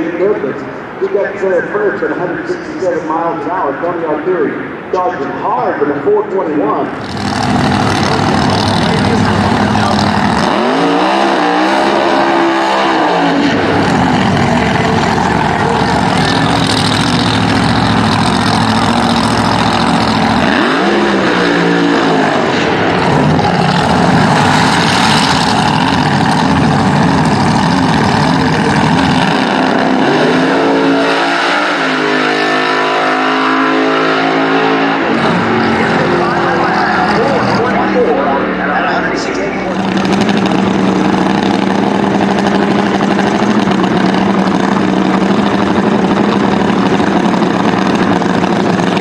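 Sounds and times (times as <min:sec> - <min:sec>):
drag racing engines at full throttle: 0:00.0 - 0:49.0.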